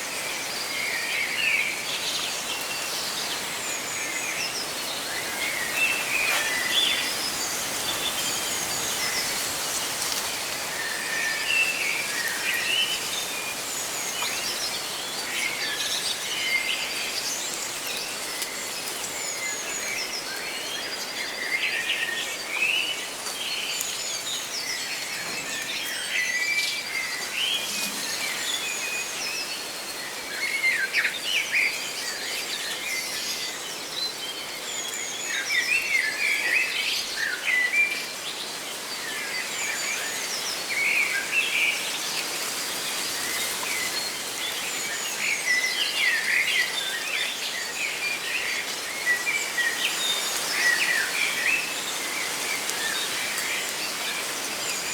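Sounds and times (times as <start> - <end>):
rustling leaves: 0.0 - 54.9.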